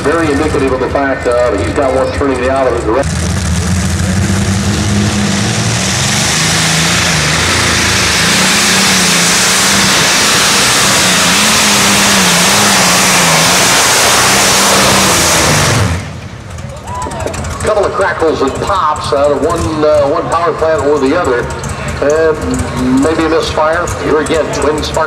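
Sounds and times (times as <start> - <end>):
aircraft engines at full power: 0.0 - 25.0.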